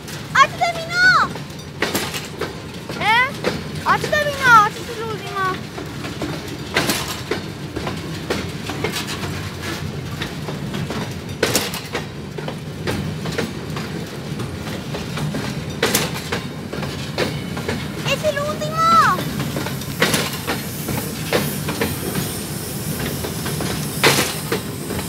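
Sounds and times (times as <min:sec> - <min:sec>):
freight train wheels rumbling: 0:00.0 - 0:25.0
wheels clacking over rail joints: 0:00.0 - 0:25.0.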